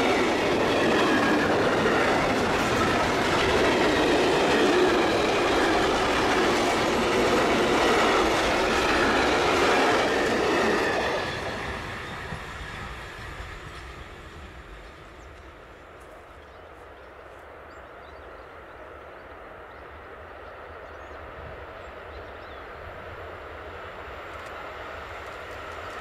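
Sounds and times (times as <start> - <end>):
freight train rolling on rails: 0.0 - 26.0.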